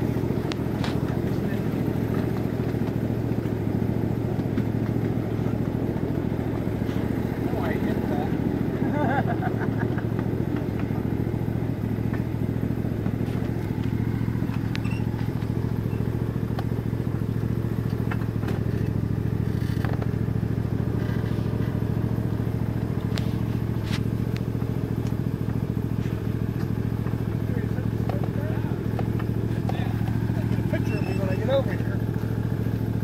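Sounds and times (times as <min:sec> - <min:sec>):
miniature train engine drone: 0:00.0 - 0:33.0.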